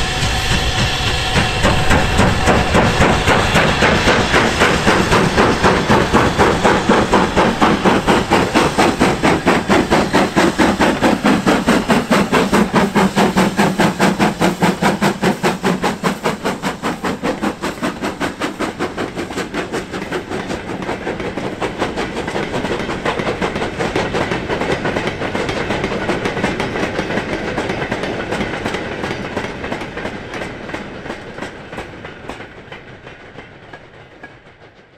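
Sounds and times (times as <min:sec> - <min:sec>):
steam locomotive exhaust beat: 0:00.0 - 0:34.9.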